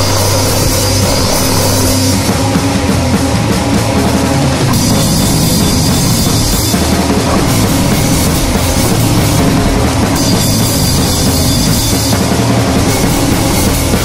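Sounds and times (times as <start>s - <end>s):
drum kit playing hard: 0.0s - 14.0s
heavy rock music: 0.0s - 14.0s.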